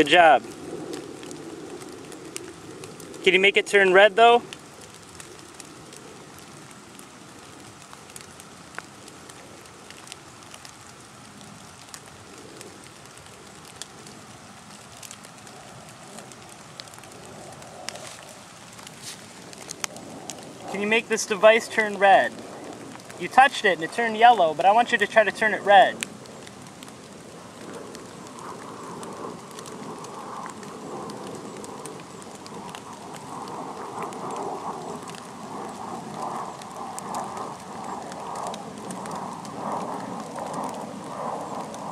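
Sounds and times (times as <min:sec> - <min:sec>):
faint outdoor hiss: 0:00.0 - 0:41.9
light rain pattering: 0:00.0 - 0:41.9.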